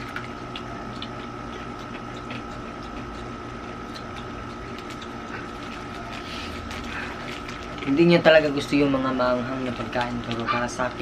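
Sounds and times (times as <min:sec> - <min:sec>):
background hum: 0:00.0 - 0:11.0
snack crunching while chewed: 0:00.0 - 0:11.0.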